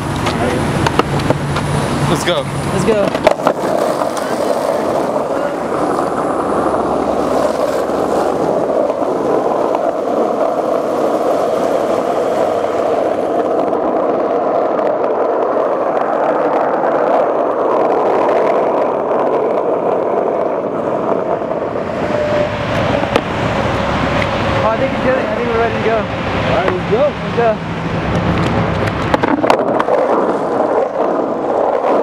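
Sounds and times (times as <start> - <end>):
skateboard wheels rolling on asphalt: 0.0 - 32.0.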